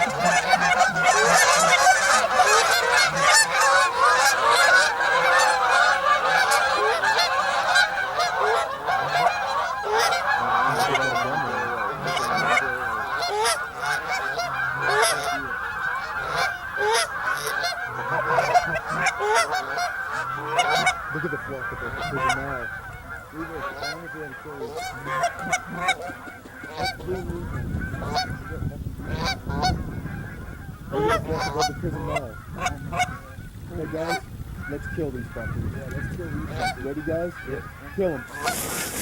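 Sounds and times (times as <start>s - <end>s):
flock of geese honking: 0.0s - 39.0s.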